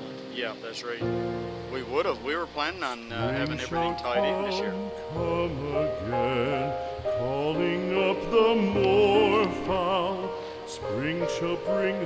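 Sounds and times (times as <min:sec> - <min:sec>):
operatic music with vibrato: 0:01.0 - 0:12.0.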